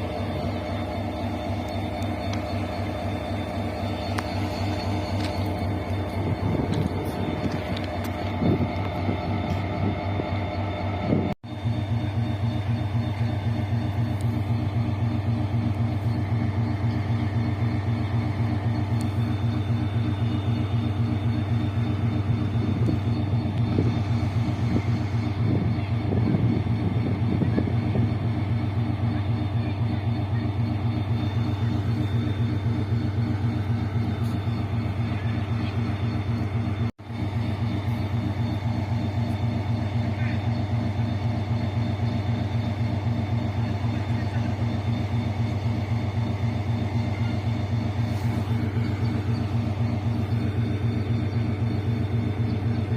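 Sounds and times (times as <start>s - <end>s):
diesel locomotive engine droning: 0.0s - 52.9s.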